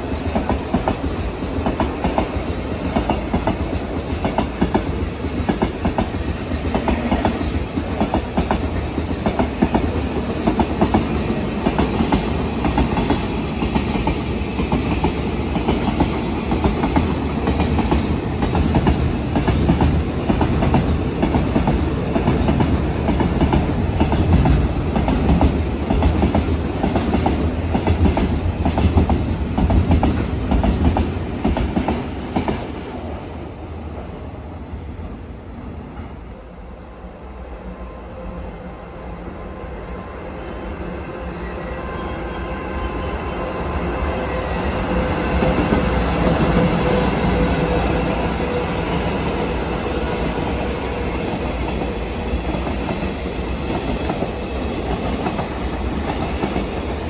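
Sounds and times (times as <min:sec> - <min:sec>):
low train rumble: 0:00.0 - 0:57.0.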